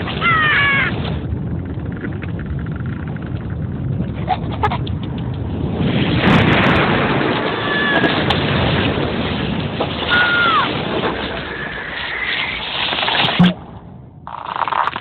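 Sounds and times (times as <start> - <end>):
cracking ice rumbling crash: 0.0 - 4.5, 5.4 - 15.0.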